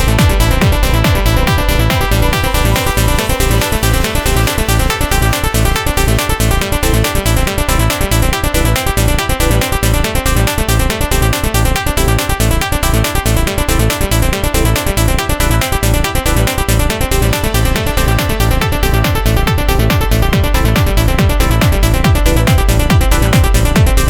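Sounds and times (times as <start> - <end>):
electronic trance music: 0.0 - 24.0.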